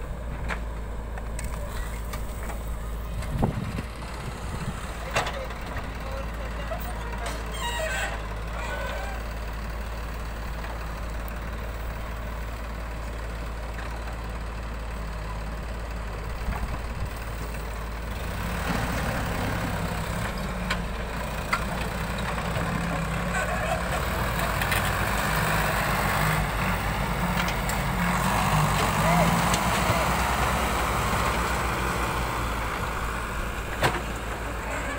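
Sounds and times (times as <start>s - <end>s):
diesel engines running: 0.0s - 34.9s.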